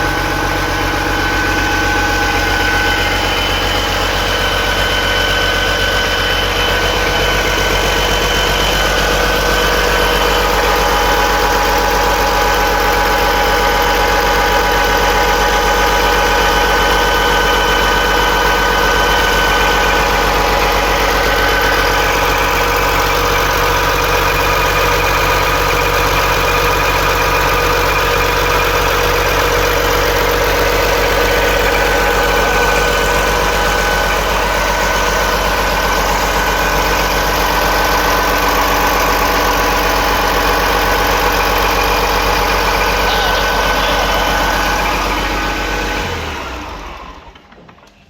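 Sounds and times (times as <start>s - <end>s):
engine idling: 0.0s - 48.0s.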